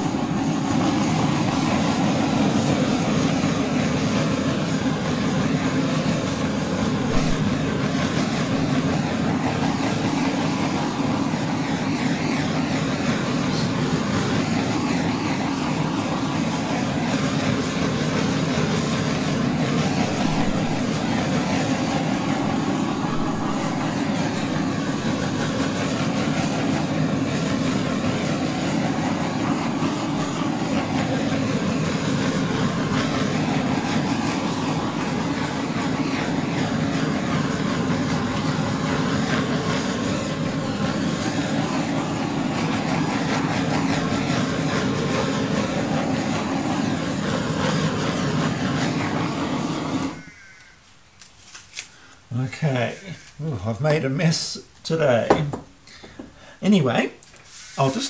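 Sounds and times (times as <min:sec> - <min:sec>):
butane torch hissing: 0:00.0 - 0:50.8, 0:51.6 - 0:58.0.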